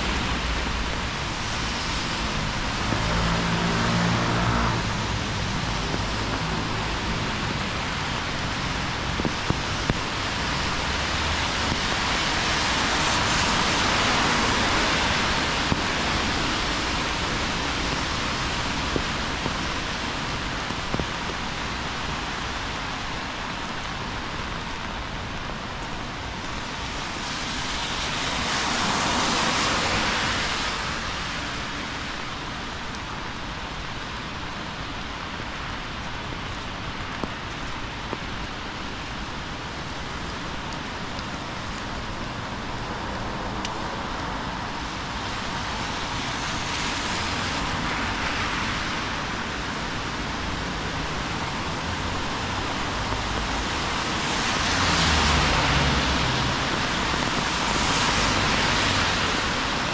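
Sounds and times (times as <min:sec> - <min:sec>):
heavy rain on street: 0:00.0 - 0:59.9.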